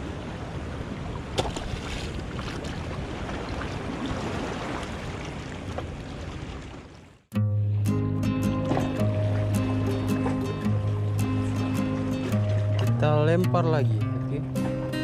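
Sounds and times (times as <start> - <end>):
water around a boat: 0.0 - 7.8, 8.4 - 15.0
wind: 0.0 - 15.0.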